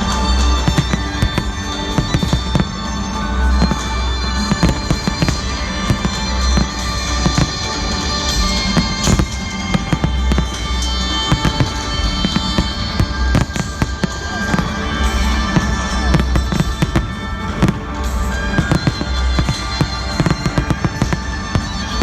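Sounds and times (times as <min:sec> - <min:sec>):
fireworks banging and crackling: 0:00.0 - 0:22.0
loud music with deep bass: 0:00.0 - 0:22.0.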